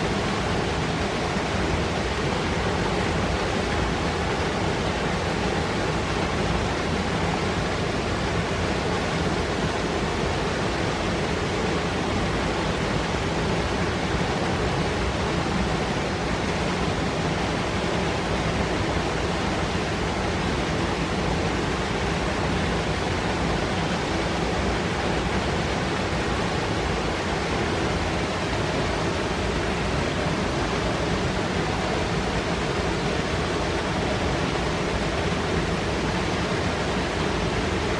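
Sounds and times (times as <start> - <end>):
river rushing over rocks: 0.0 - 37.9.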